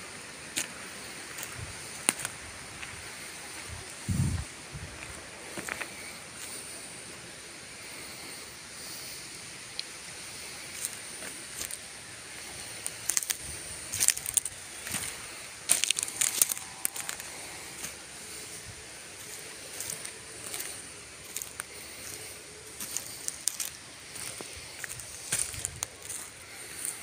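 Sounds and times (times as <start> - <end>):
faint high hiss: 0.0 - 27.0
footsteps crunching on dry leaves: 0.4 - 7.2, 10.3 - 27.0.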